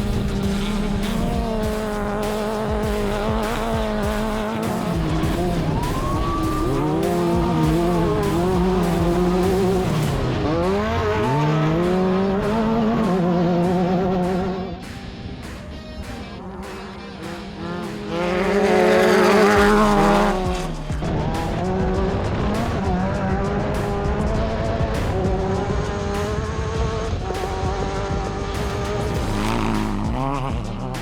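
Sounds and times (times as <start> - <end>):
music with steady beat: 0.0 - 31.0
race car engine running hard: 0.0 - 31.0.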